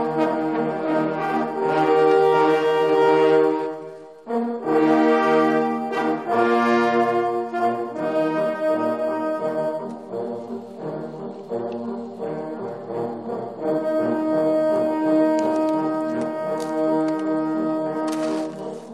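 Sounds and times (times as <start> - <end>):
brass horns playing slow tune: 0.0 - 18.9.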